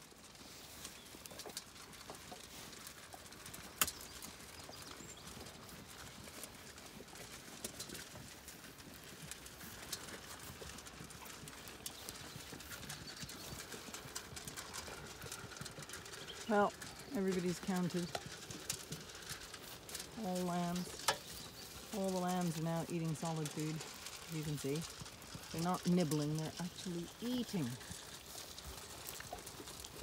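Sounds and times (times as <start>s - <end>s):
sheep crunching feed: 0.0s - 30.0s.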